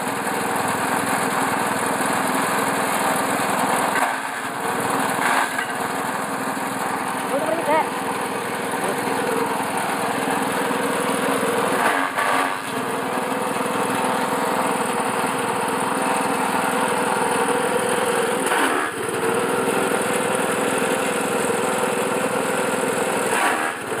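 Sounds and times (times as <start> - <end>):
forage chopper engine running: 0.0 - 24.0
grass stalks fed into chopper: 0.2 - 24.0.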